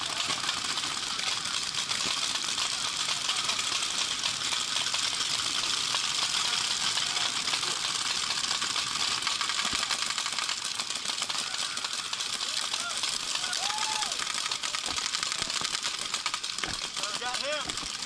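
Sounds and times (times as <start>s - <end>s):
paintball markers firing: 0.0s - 18.0s.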